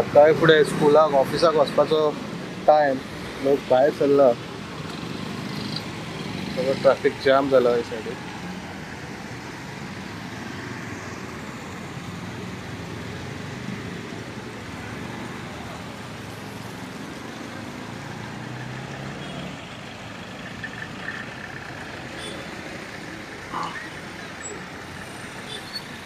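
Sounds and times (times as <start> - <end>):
car and scooter engines: 0.0 - 26.0.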